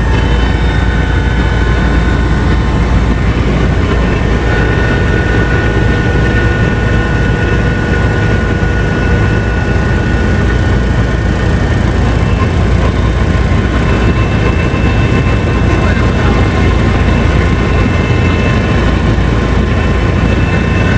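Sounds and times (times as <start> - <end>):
helicopter rotor and engine: 0.0 - 20.9
high whine: 0.0 - 20.9.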